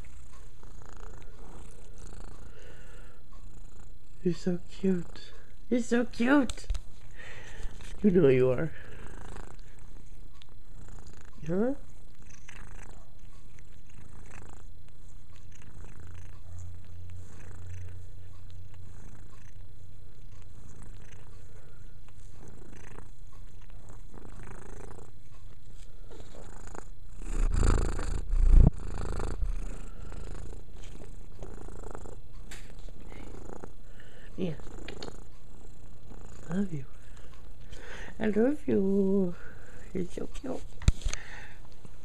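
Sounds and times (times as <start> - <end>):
cat purring: 0.0 - 42.0.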